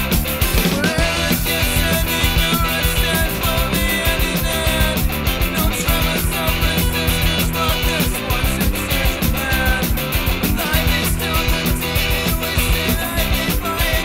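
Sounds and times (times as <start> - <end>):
punk rock band: 0.0 - 14.0.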